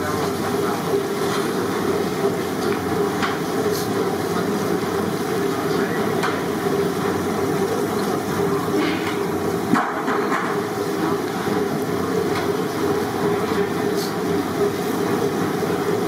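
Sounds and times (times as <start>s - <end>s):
oil sizzling deep-frying: 0.0s - 16.0s.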